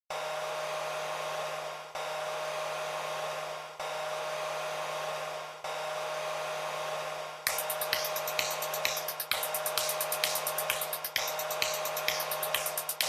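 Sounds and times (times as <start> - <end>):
hair dryer running: 0.1 - 13.0.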